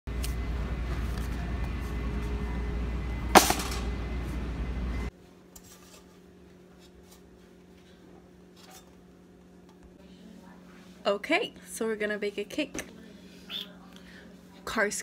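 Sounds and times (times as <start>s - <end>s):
low steady hum: 0.1s - 15.0s
supermarket background noise: 0.1s - 15.0s.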